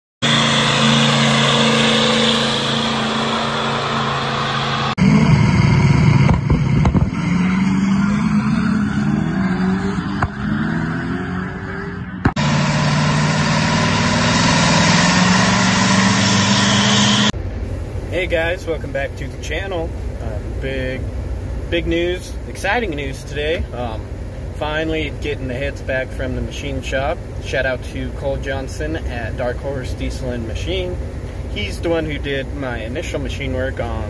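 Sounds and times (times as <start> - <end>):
diesel engine running hard: 0.2 - 34.0.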